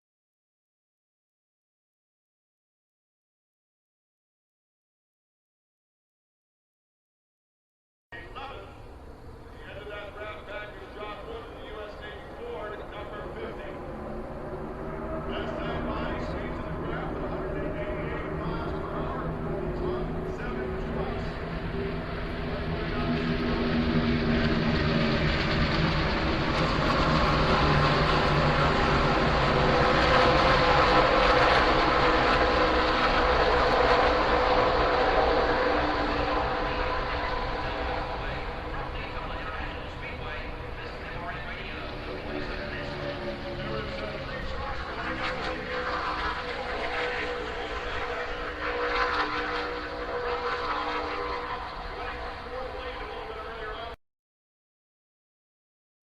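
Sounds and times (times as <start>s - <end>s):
stock car engines running: 8.2s - 54.0s.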